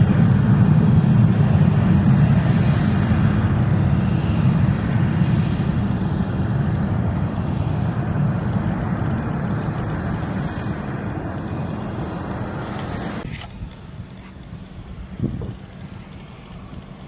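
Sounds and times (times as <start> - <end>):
airplane engines rumbling: 0.0 - 17.0.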